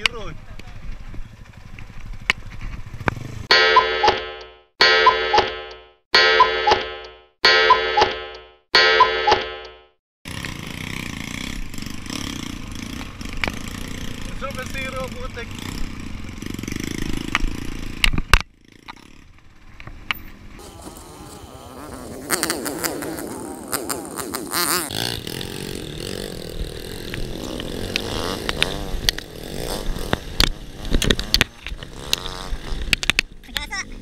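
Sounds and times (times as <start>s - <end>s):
motorcycle engine revving: 0.0s - 4.5s, 10.3s - 34.0s.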